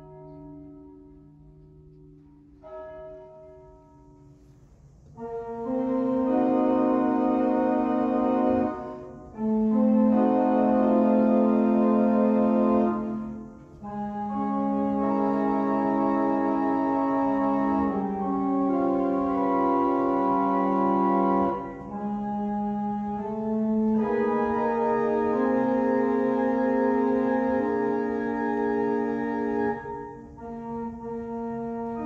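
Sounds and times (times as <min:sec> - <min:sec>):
church organ playing chords: 0:00.0 - 0:32.0.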